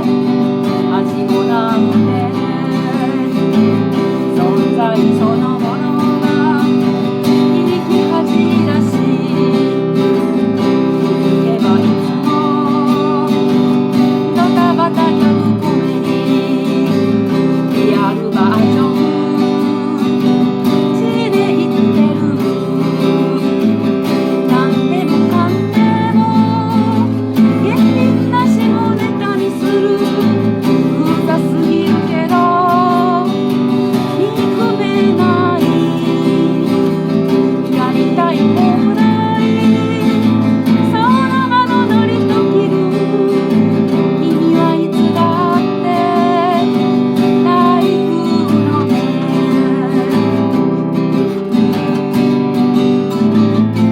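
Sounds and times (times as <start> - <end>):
strummed acoustic guitar: 0.0 - 53.9.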